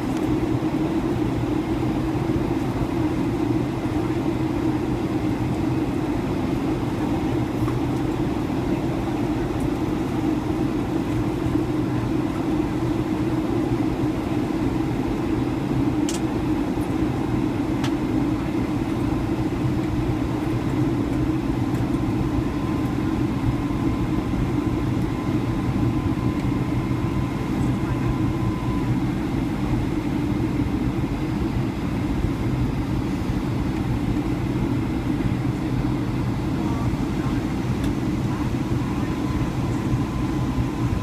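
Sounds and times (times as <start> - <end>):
jet engines droning: 0.0 - 41.0.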